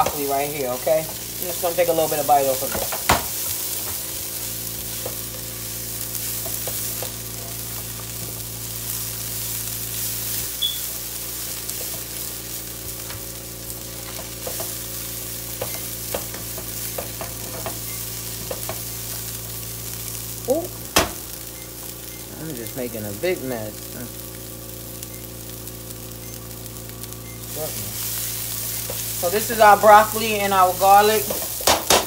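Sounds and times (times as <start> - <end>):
vegetables sizzling in a skillet: 0.0 - 32.0.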